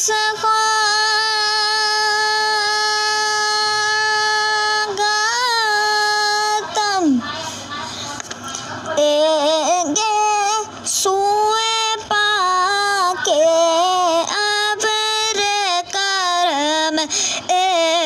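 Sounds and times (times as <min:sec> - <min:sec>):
high voice singing: 0:00.0 - 0:18.0.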